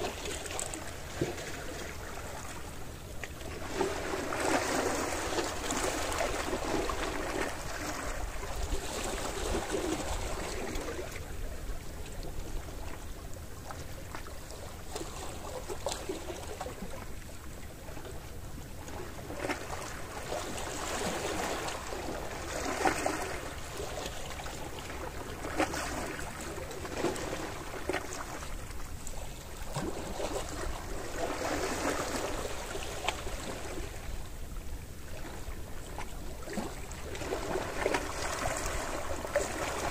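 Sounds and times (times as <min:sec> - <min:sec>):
sea waves washing on shore: 0:00.0 - 0:13.0, 0:19.0 - 0:39.9.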